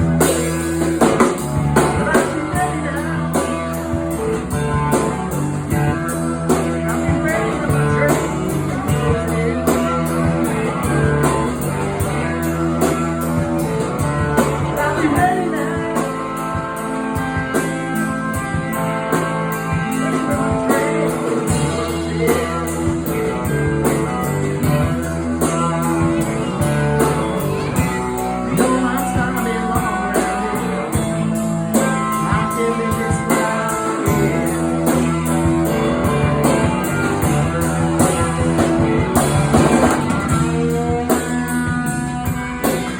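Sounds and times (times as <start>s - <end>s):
blues-rock band music: 0.0s - 42.9s.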